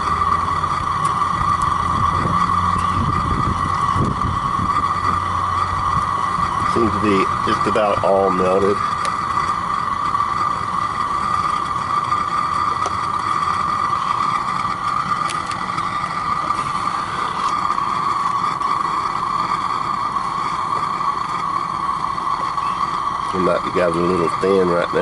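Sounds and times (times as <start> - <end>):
propane burner running: 0.0 - 25.0.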